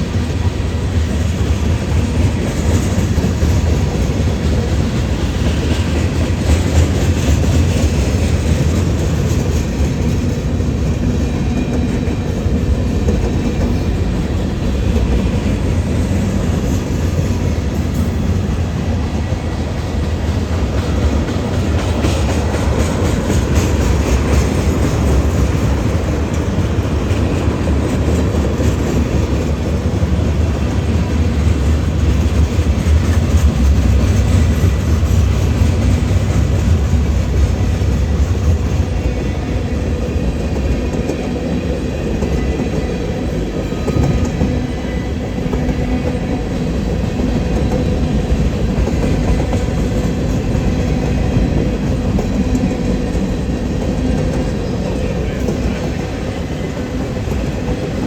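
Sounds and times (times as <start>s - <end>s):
freight train cars rumbling past: 0.0s - 58.0s.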